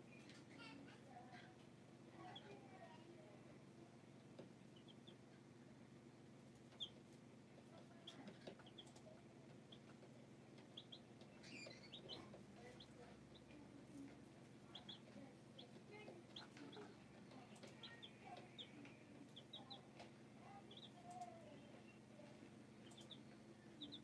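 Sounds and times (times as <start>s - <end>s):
baby chicks peeping: 0.0s - 24.0s
faint low hum: 0.0s - 24.0s.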